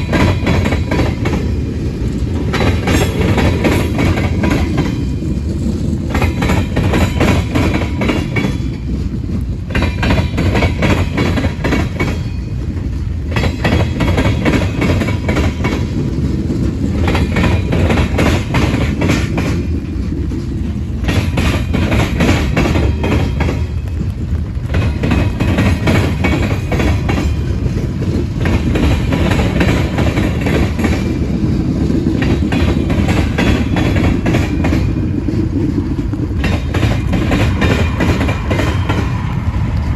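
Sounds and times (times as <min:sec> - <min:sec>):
freight train cars rumbling past: 0:00.0 - 0:39.9
wheels clicking over rail joints: 0:00.0 - 0:39.9.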